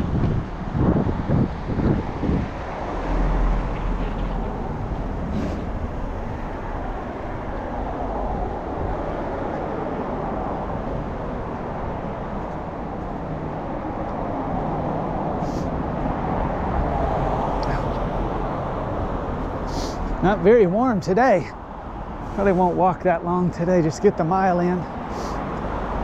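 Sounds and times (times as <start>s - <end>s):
passing street traffic: 0.0s - 26.0s.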